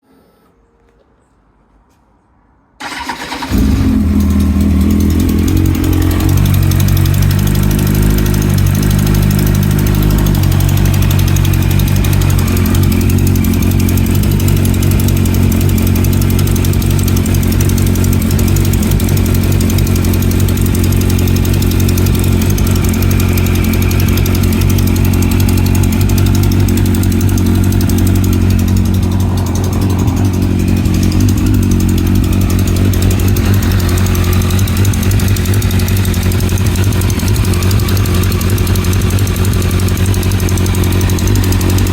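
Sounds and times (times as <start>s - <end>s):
engine ticking: 2.8s - 41.9s
motorcycle engine starting and idling: 2.8s - 41.9s.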